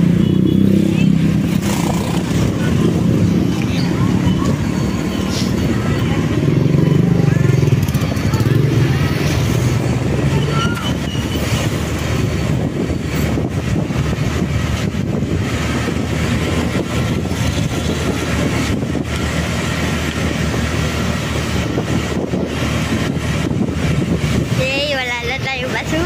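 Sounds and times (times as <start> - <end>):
motorcycle engine running: 0.0 - 25.8
wind and road noise: 0.0 - 26.0.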